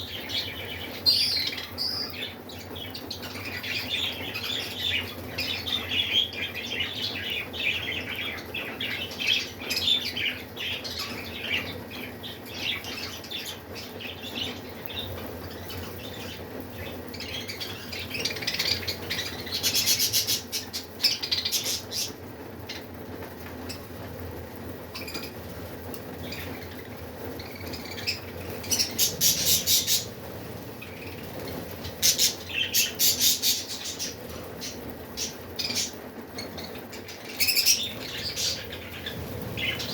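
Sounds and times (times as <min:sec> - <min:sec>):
budgerigars chattering and squawking: 0:00.0 - 0:22.9, 0:26.1 - 0:39.9
wings fluttering: 0:00.1 - 0:39.9.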